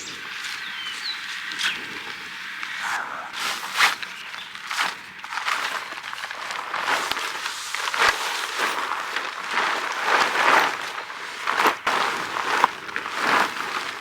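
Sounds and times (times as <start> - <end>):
tent fabric rustling: 1.5 - 14.0.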